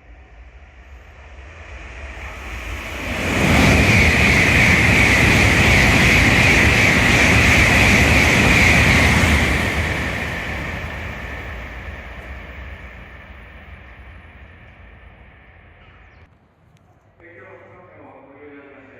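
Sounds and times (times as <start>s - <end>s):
bullet train passing at speed: 0.0s - 16.3s.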